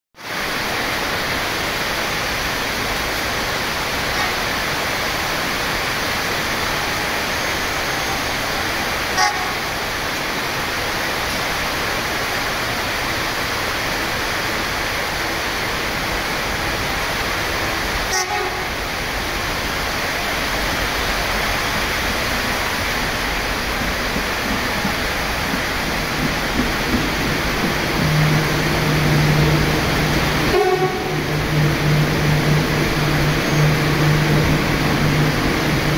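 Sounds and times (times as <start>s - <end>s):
approaching train rumble: 0.2s - 35.9s
heavy rain hissing: 0.2s - 35.9s.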